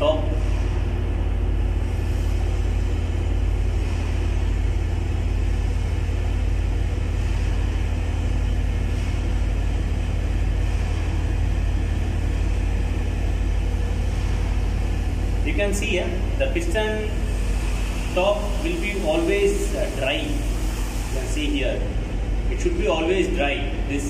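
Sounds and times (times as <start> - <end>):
engine room machinery rumbling: 0.0 - 24.0.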